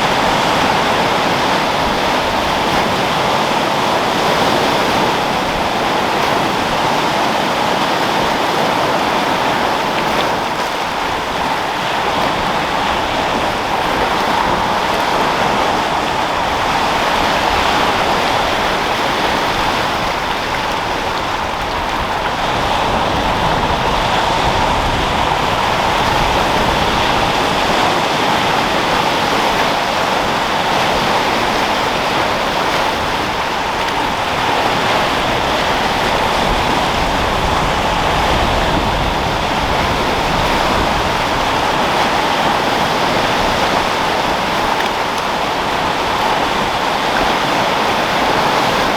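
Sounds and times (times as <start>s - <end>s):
waves breaking: 0.0s - 48.9s
wind: 0.0s - 48.9s.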